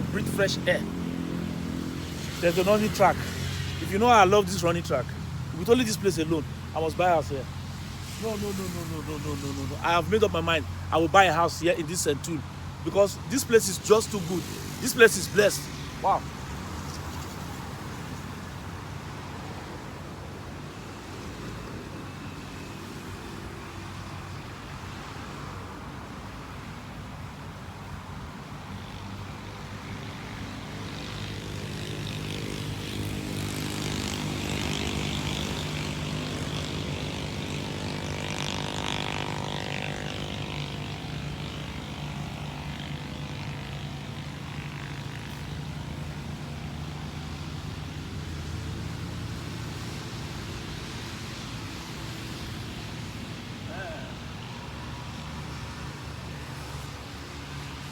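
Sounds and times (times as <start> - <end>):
engine drone passing by: 0.0 - 19.7, 28.5 - 57.9.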